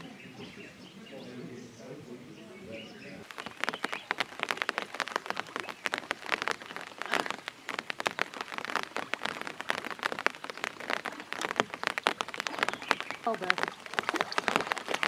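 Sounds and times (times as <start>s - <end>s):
rain drops pattering: 0.0s - 15.0s.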